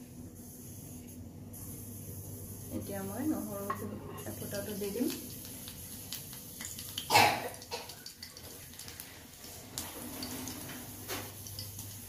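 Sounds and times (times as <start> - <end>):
loud spit of sizzle: 1.6 - 12.0
seeds frying in hot oil: 1.8 - 12.0.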